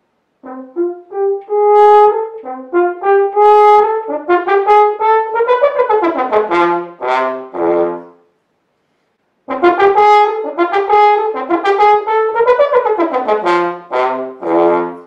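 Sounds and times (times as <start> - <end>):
french horn melody: 0.4 - 8.3, 9.4 - 15.0.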